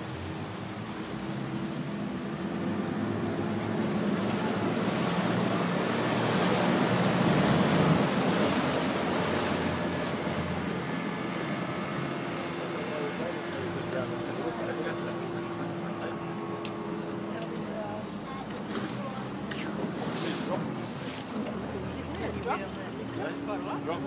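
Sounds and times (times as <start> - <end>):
boat engine drone: 0.0 - 24.0
rushing water: 0.0 - 24.0.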